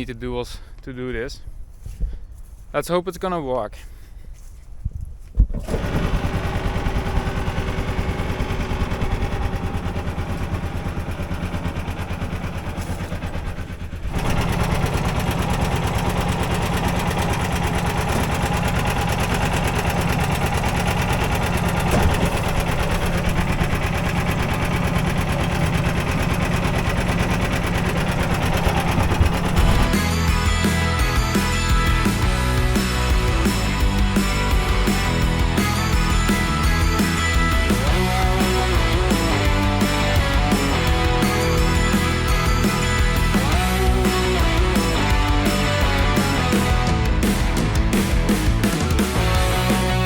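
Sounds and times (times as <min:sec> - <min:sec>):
farm machine engine running: 0:05.6 - 0:50.0.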